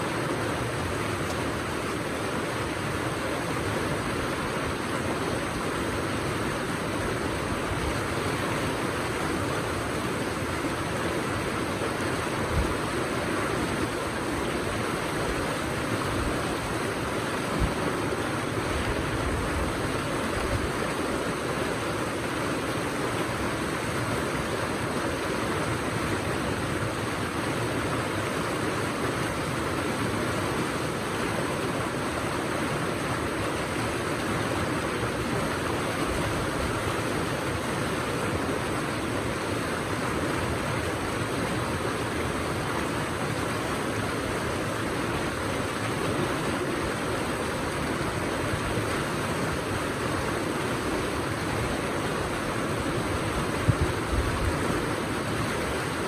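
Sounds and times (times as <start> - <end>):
river rapids rushing over boulders: 0.0 - 56.0.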